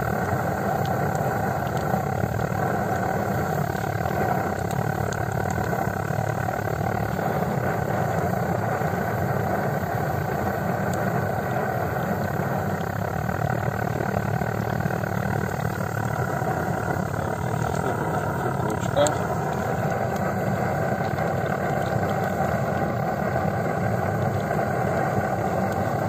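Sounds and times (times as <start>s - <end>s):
blowtorch flame rushing: 0.0s - 26.0s.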